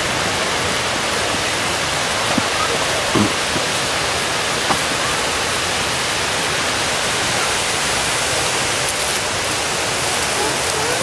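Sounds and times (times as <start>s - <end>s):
fountain water rushing: 0.0s - 11.0s.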